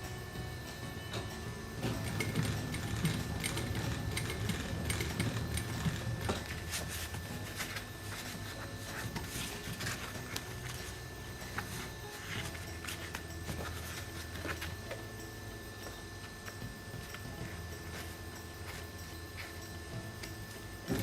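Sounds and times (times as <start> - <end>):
sewing machine motor hum: 0.2 - 21.0.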